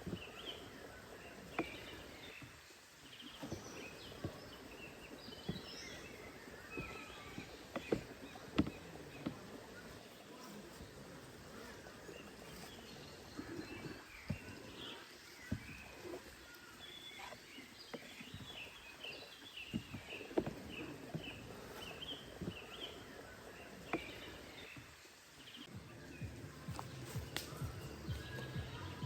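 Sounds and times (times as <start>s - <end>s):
forest background: 0.0s - 29.0s
songbird chirping: 0.0s - 29.0s.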